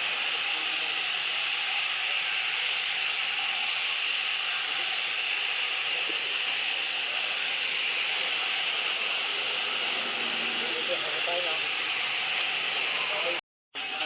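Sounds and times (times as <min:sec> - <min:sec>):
high-pitched hiss: 0:00.0 - 0:14.0.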